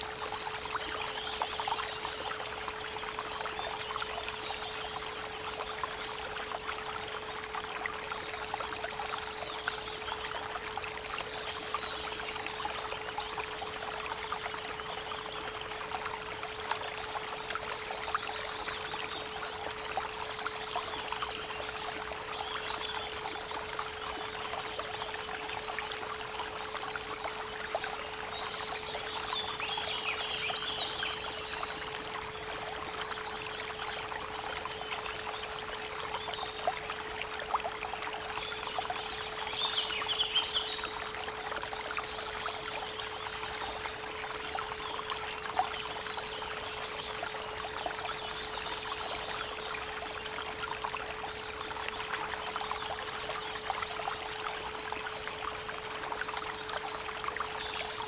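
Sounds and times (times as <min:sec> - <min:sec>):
bird song: 0:00.0 - 0:58.0
creek water running: 0:00.0 - 0:58.0.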